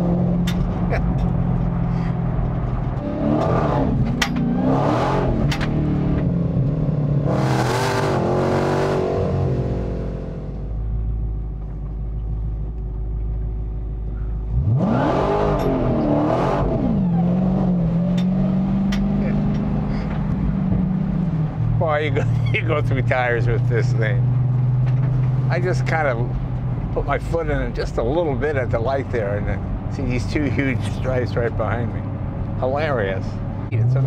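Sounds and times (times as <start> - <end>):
car engine accelerating hard: 0.0 - 10.8, 14.2 - 34.0.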